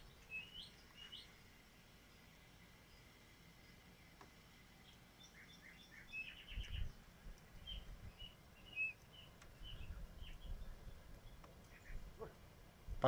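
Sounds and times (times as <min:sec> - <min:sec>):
small songbirds chirping: 0:00.0 - 0:12.8.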